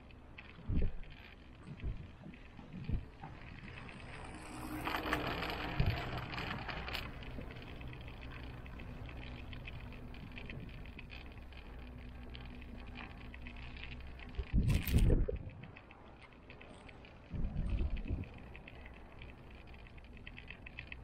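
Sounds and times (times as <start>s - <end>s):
cable car hum and rushing: 0.0s - 21.0s.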